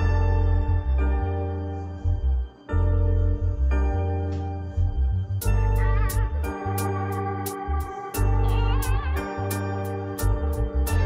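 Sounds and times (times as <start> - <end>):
background music chords: 0.0 - 11.0.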